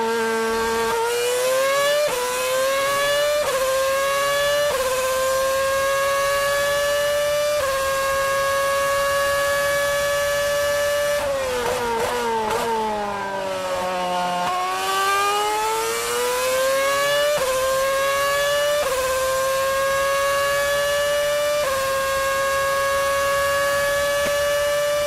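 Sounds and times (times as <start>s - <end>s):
racing car engine at high revs: 0.0s - 25.0s.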